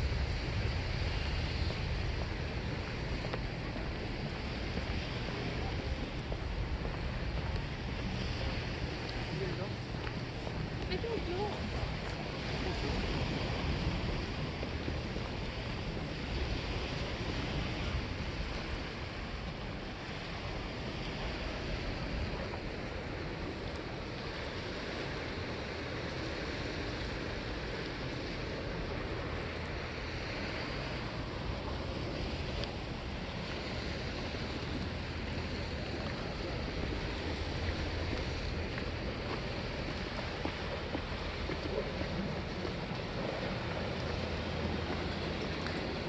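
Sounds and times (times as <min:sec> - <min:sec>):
sea waves washing against rocks: 0:00.0 - 0:46.0
wind noise on microphone: 0:00.0 - 0:46.0.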